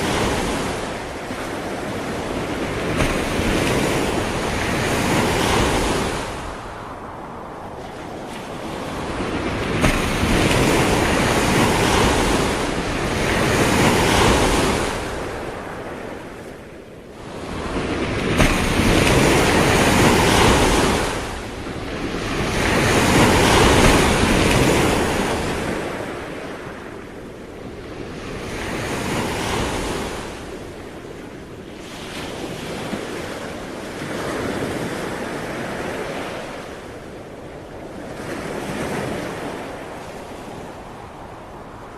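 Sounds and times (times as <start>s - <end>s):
sea waves breaking on shore: 0.0s - 41.9s
wind: 0.0s - 41.9s.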